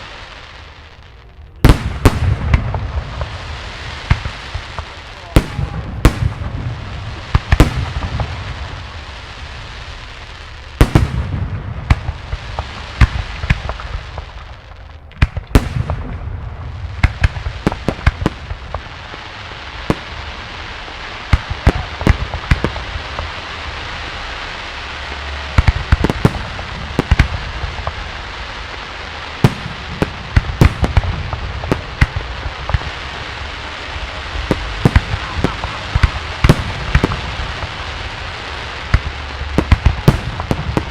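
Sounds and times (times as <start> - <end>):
fireworks crackle and hiss: 0.0 - 40.9.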